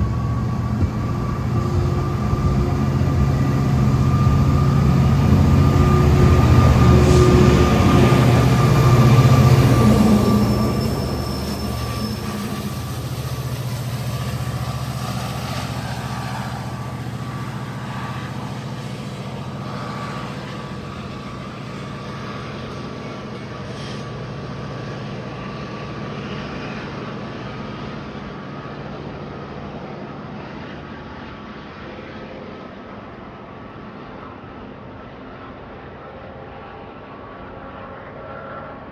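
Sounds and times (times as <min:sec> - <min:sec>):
diesel train engine drone: 0:00.0 - 0:38.9
thin train whine: 0:00.0 - 0:38.9.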